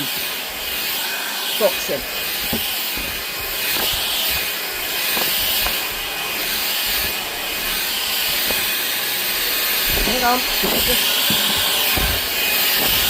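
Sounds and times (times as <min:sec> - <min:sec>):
vacuum cleaner whirring: 0:00.0 - 0:13.0.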